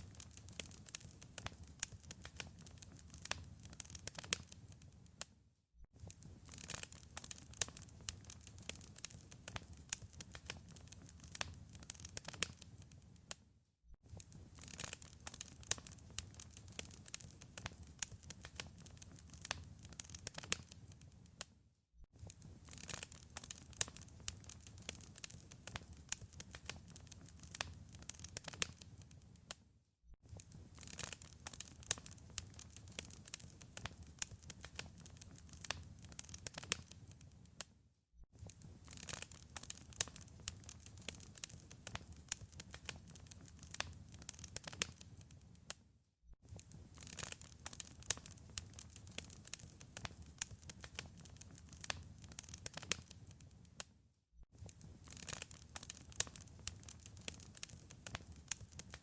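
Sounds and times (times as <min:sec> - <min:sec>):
wood fire crackling and popping: 0:00.0 - 0:05.3, 0:06.0 - 0:13.4, 0:14.1 - 0:21.5, 0:22.2 - 0:29.6, 0:30.3 - 0:37.7, 0:38.4 - 0:45.8, 0:46.5 - 0:53.9, 0:54.6 - 0:59.0.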